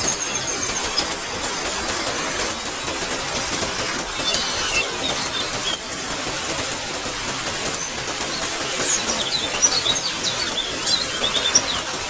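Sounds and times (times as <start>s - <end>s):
small birds chirping: 0.0s - 6.3s, 7.5s - 12.0s
rain hiss: 0.0s - 12.0s.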